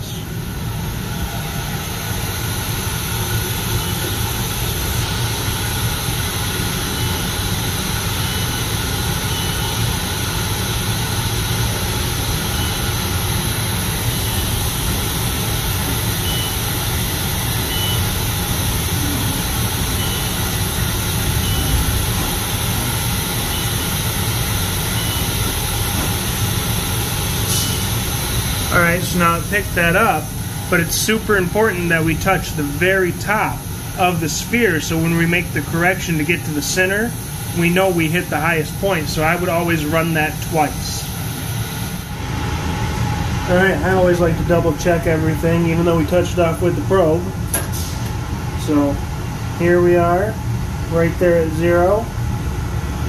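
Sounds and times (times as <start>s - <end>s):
machine hum and whir: 0.0s - 53.0s.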